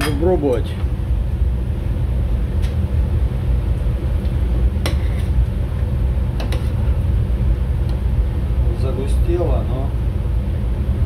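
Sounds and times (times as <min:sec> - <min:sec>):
low machinery rumble: 0:00.0 - 0:11.0.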